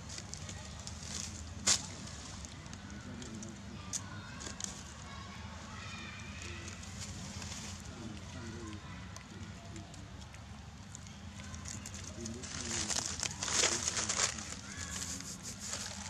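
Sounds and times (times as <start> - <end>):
dry leaves rustling and crackling: 0.0 - 16.0
faint distant voices: 0.0 - 16.0.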